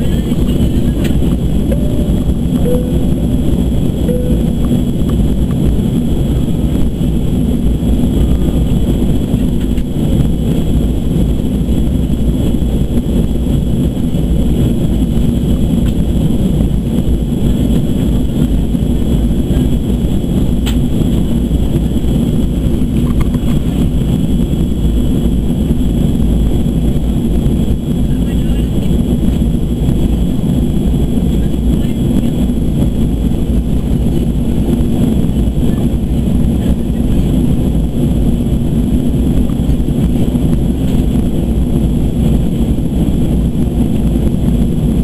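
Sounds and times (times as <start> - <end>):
jet engine cabin rumble: 0.0 - 45.0
steady high whine: 0.0 - 45.0.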